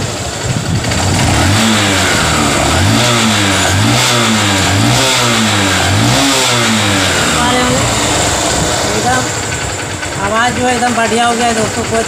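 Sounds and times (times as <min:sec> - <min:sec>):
motorcycle engine idling: 0:00.0 - 0:12.0
motorcycle engine revving: 0:00.0 - 0:12.0.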